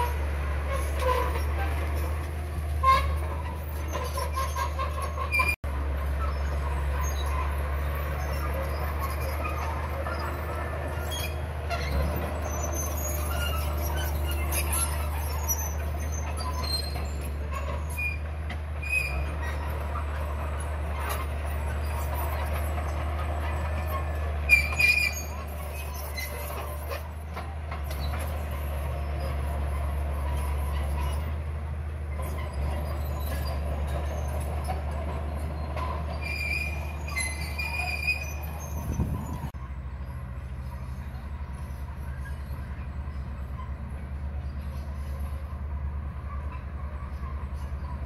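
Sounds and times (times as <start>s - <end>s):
bulldozer diesel engine droning: 0.0s - 48.0s
steel tracks squeaking: 0.0s - 48.0s.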